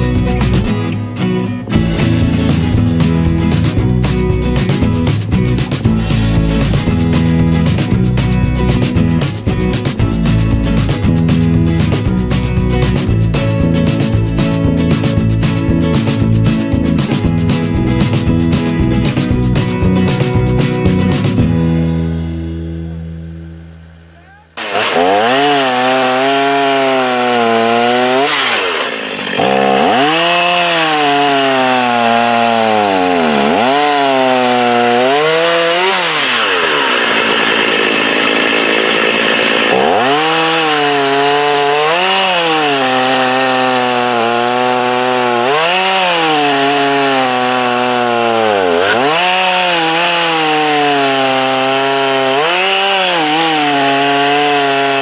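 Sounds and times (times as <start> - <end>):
chainsaw cutting through log: 0.0 - 1.0, 1.6 - 21.5, 23.8 - 55.0.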